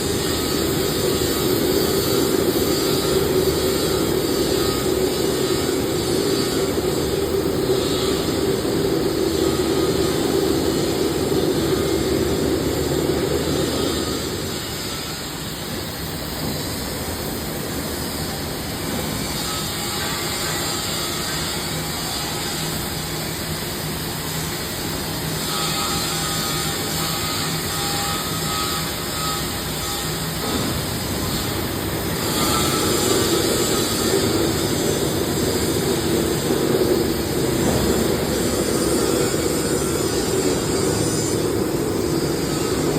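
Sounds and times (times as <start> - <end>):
cutting torch hissing: 0.0 - 42.9
faint steady machine tones: 0.0 - 42.9.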